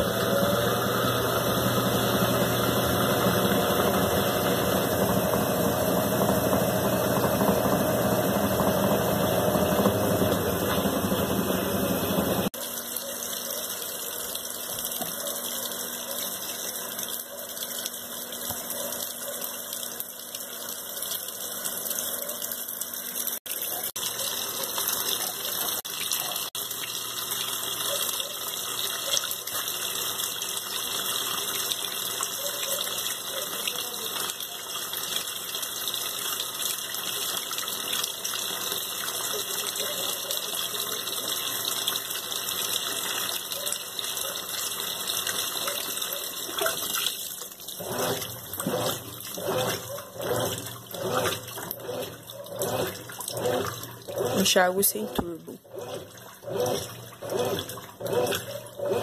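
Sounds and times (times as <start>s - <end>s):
washing machine motor running: 0.0s - 59.0s
water rushing inside machine: 0.0s - 59.0s.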